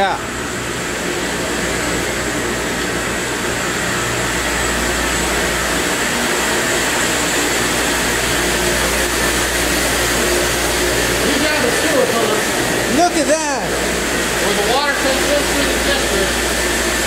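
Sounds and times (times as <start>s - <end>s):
high whine: 0.0s - 17.0s.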